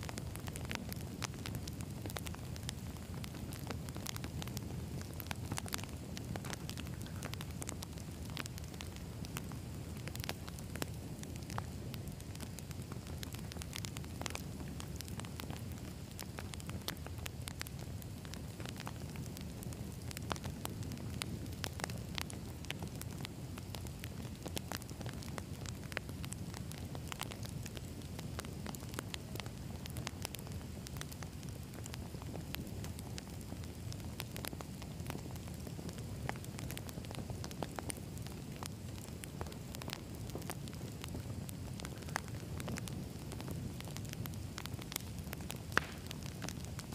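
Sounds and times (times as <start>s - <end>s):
fire flames rumbling: 0.0s - 46.9s
logs crackling and popping: 0.0s - 46.9s.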